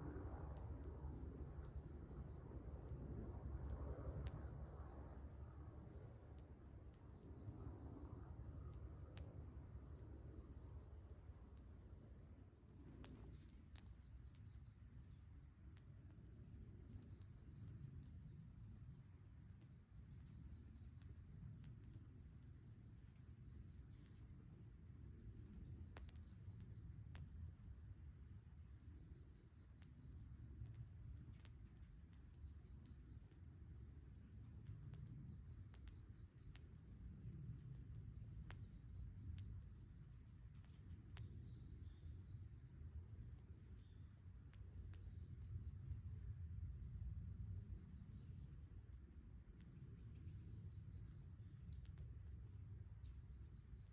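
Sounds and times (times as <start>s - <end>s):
insects chirping: 0.1s - 53.9s.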